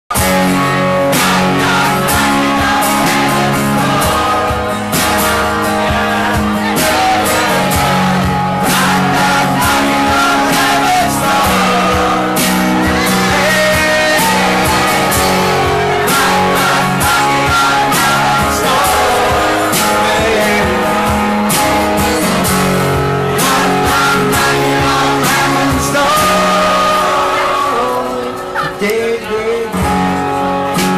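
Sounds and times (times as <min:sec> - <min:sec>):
strummed acoustic guitar: 0:00.1 - 0:30.9
man singing loudly: 0:00.9 - 0:22.5, 0:23.2 - 0:30.1.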